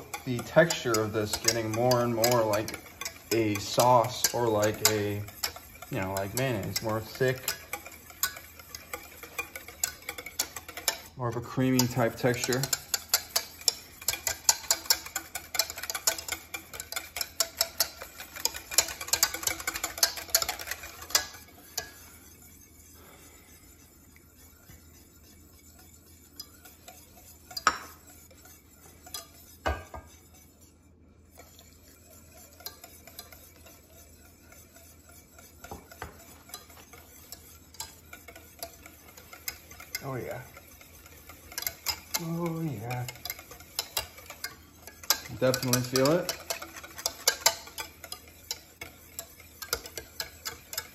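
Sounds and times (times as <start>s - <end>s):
whisk clattering in steel pot: 0.0s - 50.9s.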